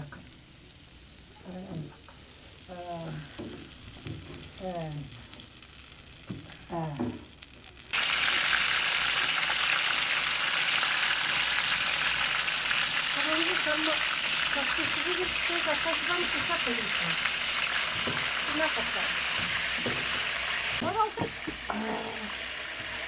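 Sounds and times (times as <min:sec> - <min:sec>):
food frying in hot oil: 0:00.0 - 0:23.0.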